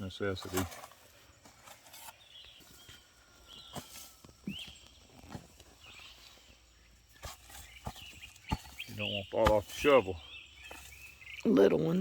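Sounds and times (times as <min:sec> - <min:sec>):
shovel thuds and scrapes in soil: 0:00.0 - 0:11.4.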